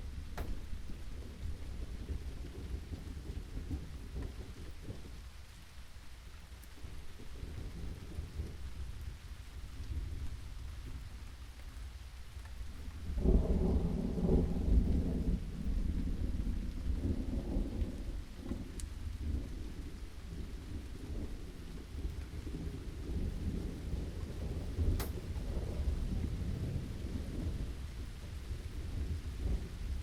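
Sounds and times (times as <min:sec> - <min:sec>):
thunder rumbling: 0:00.0 - 0:05.4, 0:06.8 - 0:11.2, 0:12.7 - 0:30.0
steady rain: 0:00.0 - 0:30.0.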